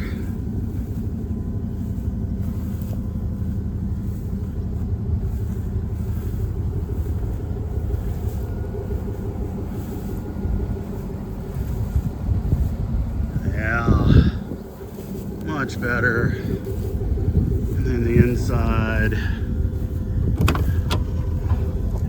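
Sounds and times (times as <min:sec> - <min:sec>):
engine running with low rumble: 0:00.0 - 0:22.0.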